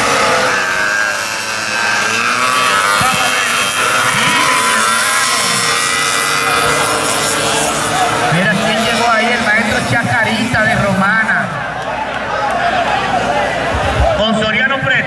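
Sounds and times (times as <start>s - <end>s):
small motorcycle engines revving: 0.0s - 15.0s.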